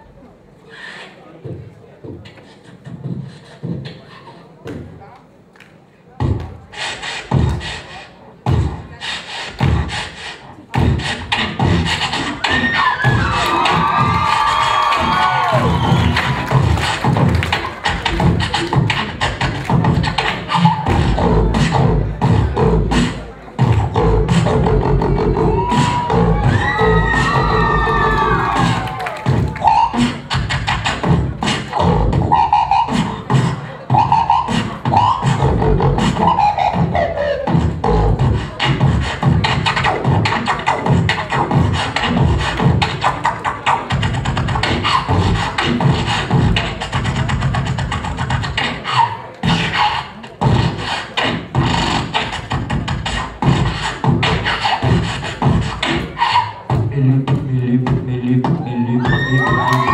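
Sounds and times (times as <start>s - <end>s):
beatboxing into microphone: 0.0s - 59.9s
vocal melody: 6.2s - 59.9s.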